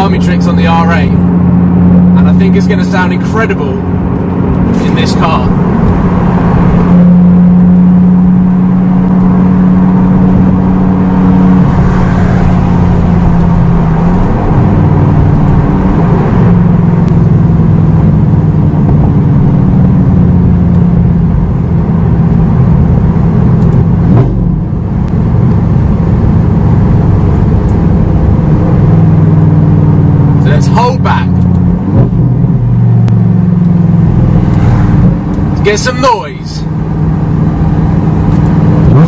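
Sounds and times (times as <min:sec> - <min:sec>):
car engine heard from cabin: 0:00.0 - 0:39.0.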